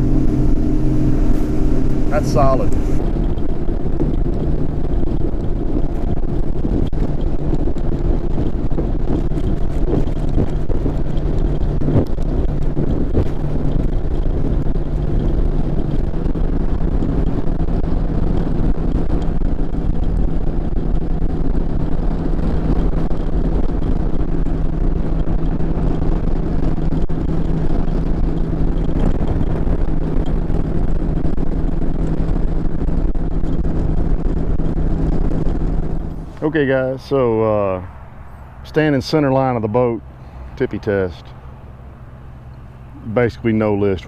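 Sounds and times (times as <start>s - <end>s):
wind on microphone: 0.0s - 36.9s
outboard motor running at high speed: 0.0s - 37.4s.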